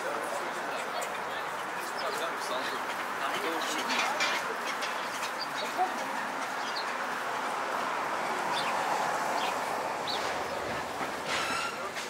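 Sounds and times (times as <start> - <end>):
murmur of people walking and talking: 0.0 - 12.0.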